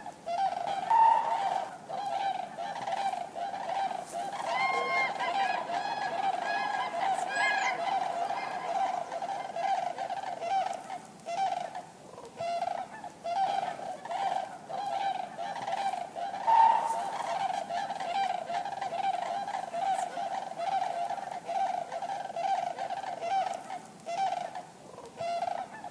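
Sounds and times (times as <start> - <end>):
cranes honking calls: 0.3 - 25.9.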